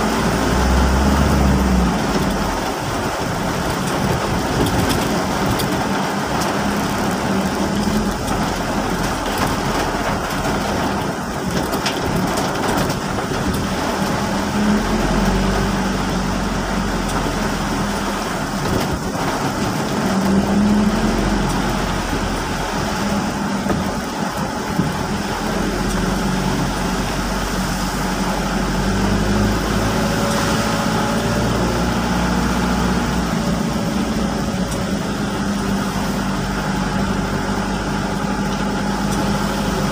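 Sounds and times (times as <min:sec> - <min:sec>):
steady rain: 0:00.0 - 0:39.9
tyres on wet road: 0:00.0 - 0:39.9.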